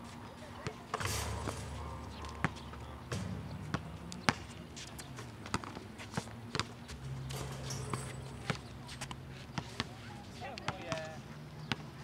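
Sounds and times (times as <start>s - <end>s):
basketballs bouncing on concrete: 0.6s - 11.9s.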